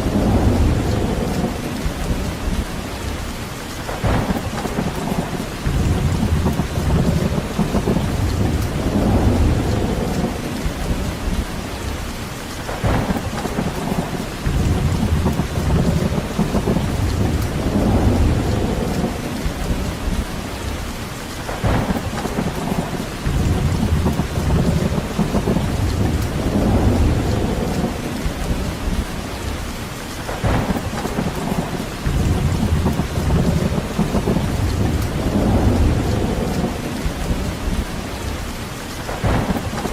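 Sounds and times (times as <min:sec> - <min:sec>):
heavy rain hiss: 0:00.0 - 0:39.9
rolling thunder rumbles: 0:00.0 - 0:39.9.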